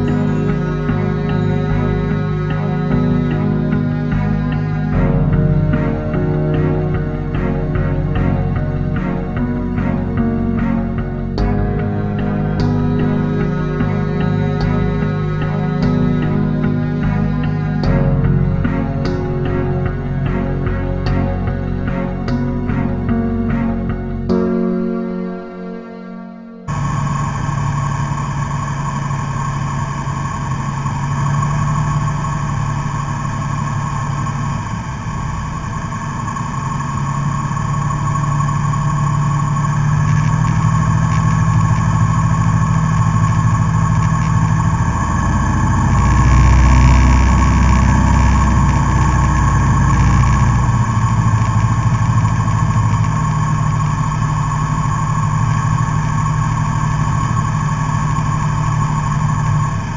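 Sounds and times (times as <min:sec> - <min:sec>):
propeller plane engine droning: 0:00.0 - 0:25.7, 0:26.6 - 0:59.9.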